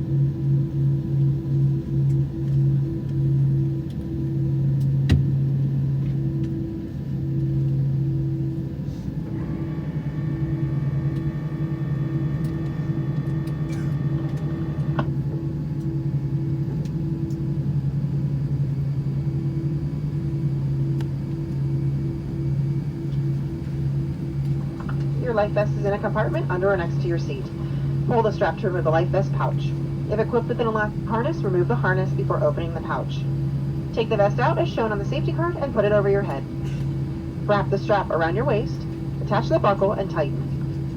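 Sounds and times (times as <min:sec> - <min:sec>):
aircraft cabin engine drone: 0:00.0 - 0:40.9
high steady whine: 0:00.0 - 0:40.9.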